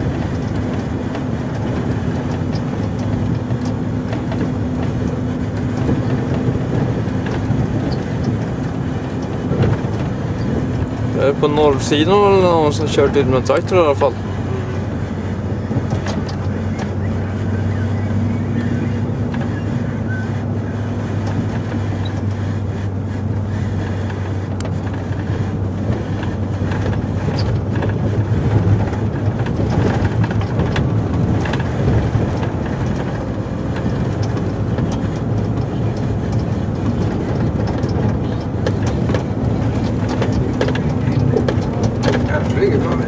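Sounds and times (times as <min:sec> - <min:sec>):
diesel engine running: 0:00.0 - 0:43.0
tyre and plow rumbling: 0:00.0 - 0:43.0.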